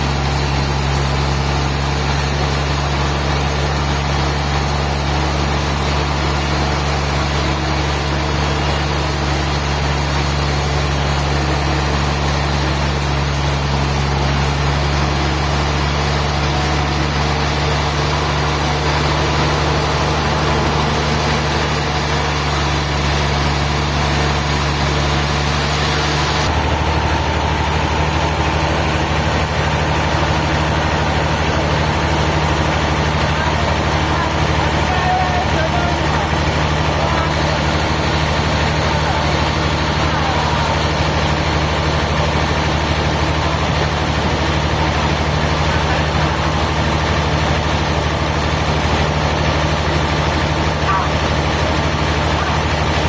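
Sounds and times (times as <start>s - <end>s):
engine humming: 0.0s - 42.7s.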